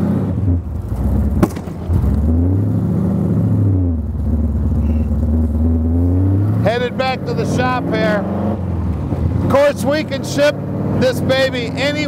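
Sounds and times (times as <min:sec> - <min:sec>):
vehicle engine accelerating: 0:00.0 - 0:12.0.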